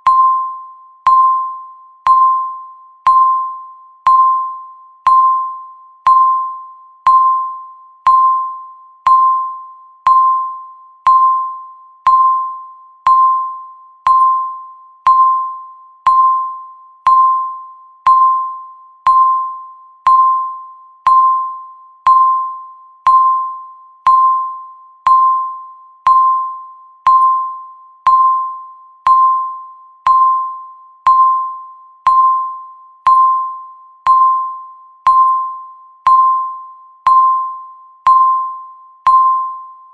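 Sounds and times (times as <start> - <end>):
electronic timer ping: 0.0 - 39.9.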